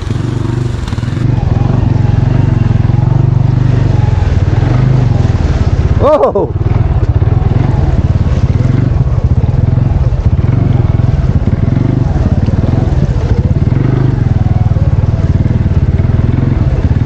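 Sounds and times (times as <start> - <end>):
atv engine rumbling: 0.0 - 17.0.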